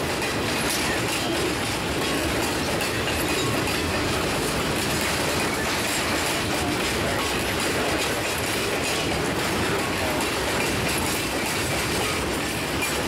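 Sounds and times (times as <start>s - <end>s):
freight car wheels rumbling: 0.0s - 13.0s
wheels clacking over rail joint: 0.0s - 13.0s.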